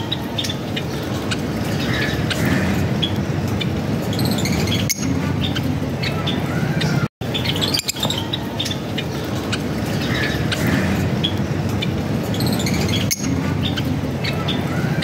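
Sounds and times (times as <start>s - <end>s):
lovebirds chirping: 0.0s - 15.0s
steady background noise: 0.0s - 15.0s.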